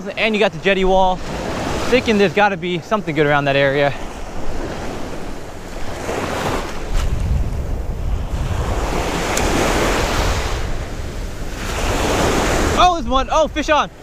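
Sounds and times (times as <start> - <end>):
ocean surf breaking on shore: 0.0 - 14.0
wind buffeting microphone: 0.0 - 14.0.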